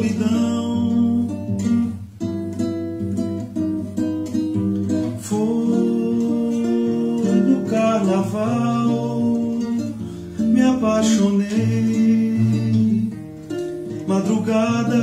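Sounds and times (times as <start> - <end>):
classical guitar chords: 0.0 - 15.0.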